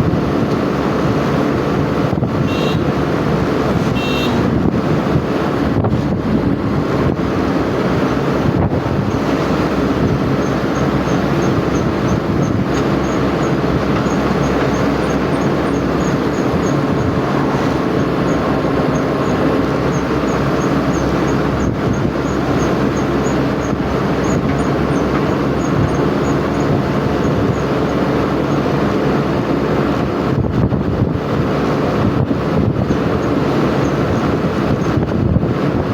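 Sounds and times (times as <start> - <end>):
moving vehicle running noise: 0.0 - 35.9.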